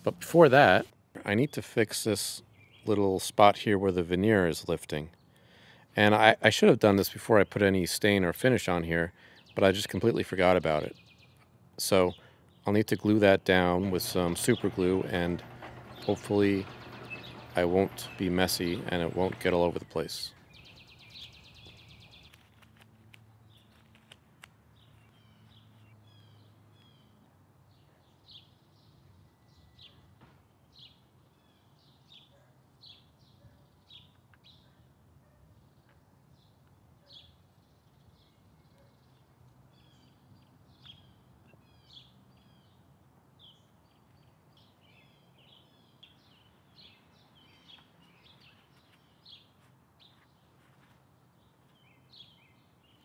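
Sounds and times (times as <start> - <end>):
birds chirping: 0.0 - 6.3, 6.9 - 22.5, 24.7 - 53.0.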